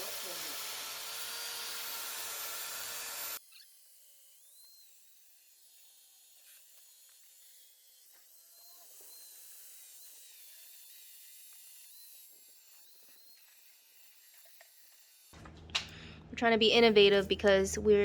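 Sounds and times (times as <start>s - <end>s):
power grinder whining: 0.0s - 16.3s.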